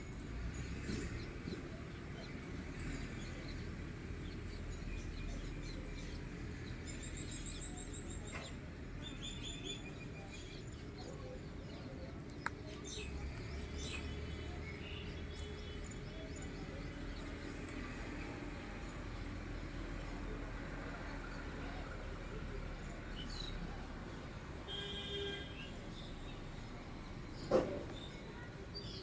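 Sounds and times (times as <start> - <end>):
low outdoor background noise: 0.0 - 29.0.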